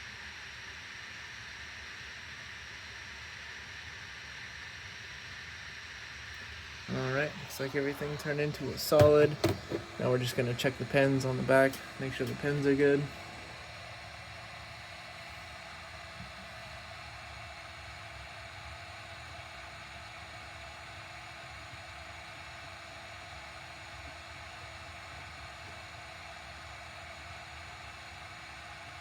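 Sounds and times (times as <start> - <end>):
faint steady hum: 0.0 - 29.0
fan whir and hiss: 0.0 - 29.0.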